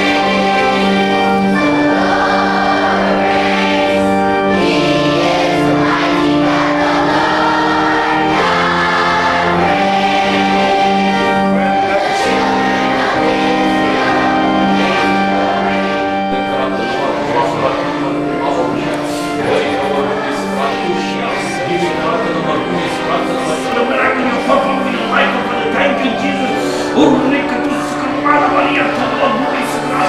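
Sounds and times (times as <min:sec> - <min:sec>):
congregation singing: 0:00.0 - 0:30.0
instrumental backing: 0:00.0 - 0:30.0.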